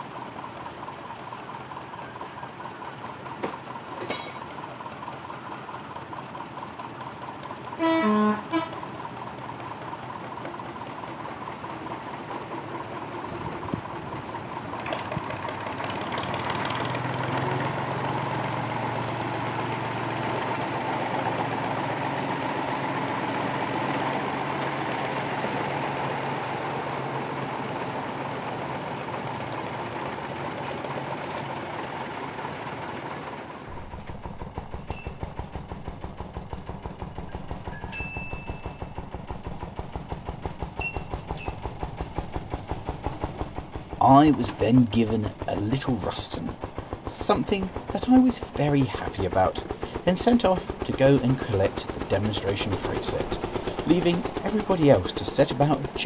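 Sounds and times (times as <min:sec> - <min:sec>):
locomotive engine idling: 0:00.0 - 0:56.0
small locomotive engine running: 0:00.0 - 0:56.0.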